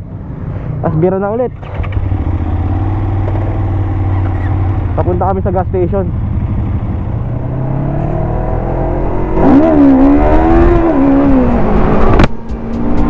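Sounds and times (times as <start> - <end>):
motorcycle engine accelerating: 1.5 - 13.0.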